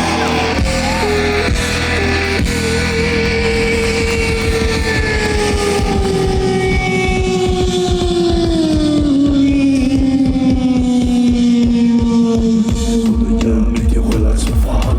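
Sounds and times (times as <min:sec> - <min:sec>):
fast drum roll: 0:00.0 - 0:14.9.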